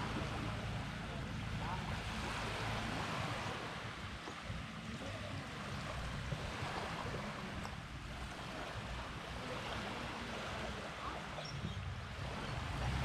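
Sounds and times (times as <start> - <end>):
small waves washing on shore: 0.0 - 13.0
wind buffeting microphone: 0.0 - 13.0.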